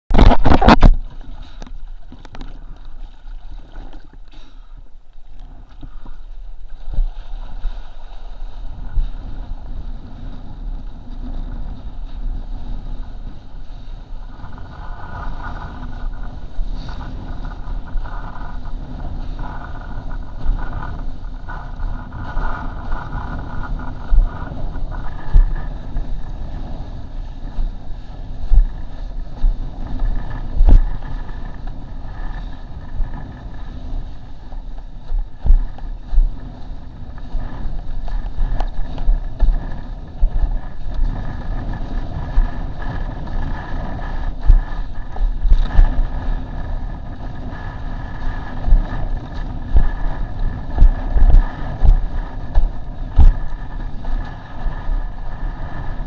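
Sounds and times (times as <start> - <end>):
board on choppy water: 0.1 - 56.0
steady whine: 0.1 - 56.0
wind rushing over microphone: 0.1 - 56.0.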